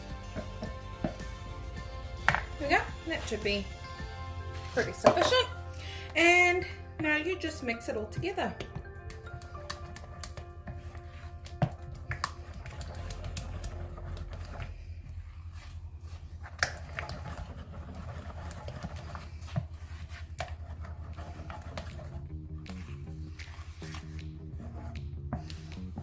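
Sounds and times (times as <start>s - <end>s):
spoon stirring thick mixture: 0.0s - 6.3s, 7.0s - 26.0s.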